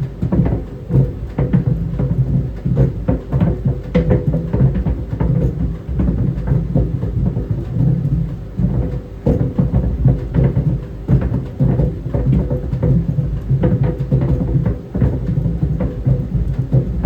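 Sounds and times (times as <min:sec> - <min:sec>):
clothes dryer drum rumbling: 0:00.0 - 0:17.0.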